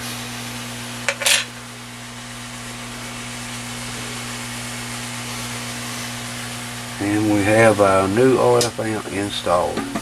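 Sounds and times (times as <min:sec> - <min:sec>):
fan-like hiss: 0:00.0 - 0:10.0
low equipment hum: 0:00.0 - 0:10.0.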